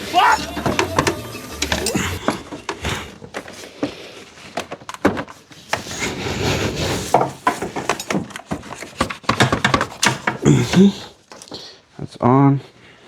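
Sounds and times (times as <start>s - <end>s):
engine parts clicking and knocking: 0.0s - 6.0s, 7.0s - 11.6s.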